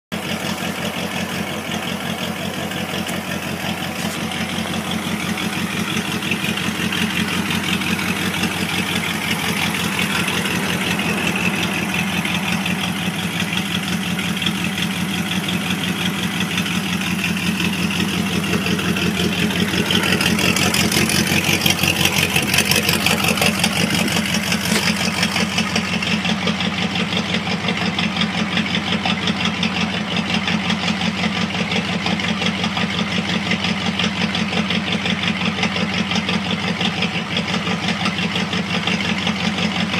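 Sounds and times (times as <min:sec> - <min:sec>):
car engine idling: 0:00.1 - 0:39.9.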